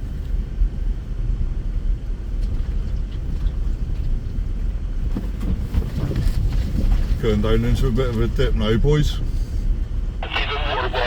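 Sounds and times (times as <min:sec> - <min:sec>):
off-road vehicle engine rumble: 0:00.0 - 0:11.0.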